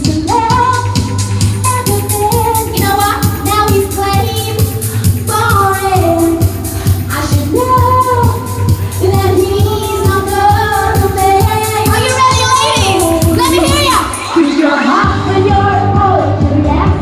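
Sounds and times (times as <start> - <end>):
backing track with steady beat: 0.0 - 17.0
woman singing pop song: 0.0 - 17.0.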